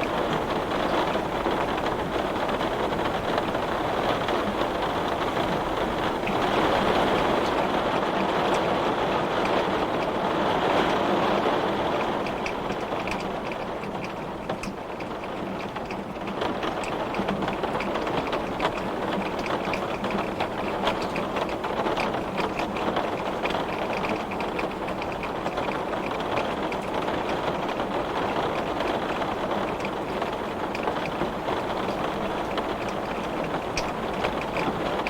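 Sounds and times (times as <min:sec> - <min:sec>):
heavy rain on glass: 0:00.0 - 0:35.0.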